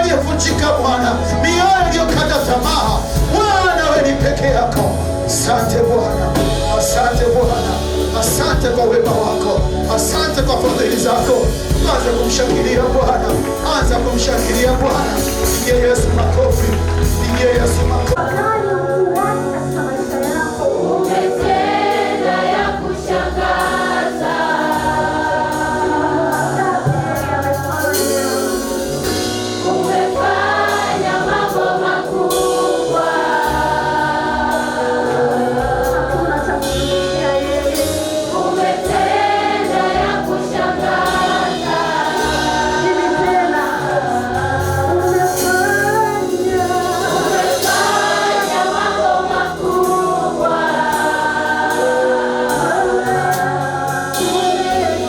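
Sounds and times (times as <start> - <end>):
choir singing gospel song: 0.0 - 55.0
instrumental backing with bass line: 0.0 - 55.0.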